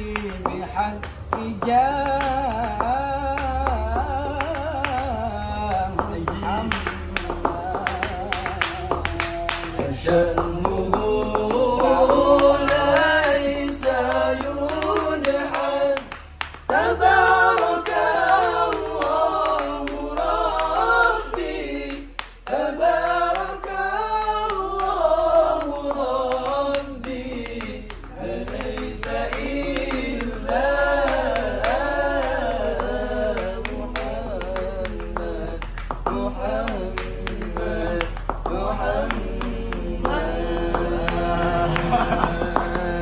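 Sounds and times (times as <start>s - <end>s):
male voices singing devotional song: 0.0s - 43.0s.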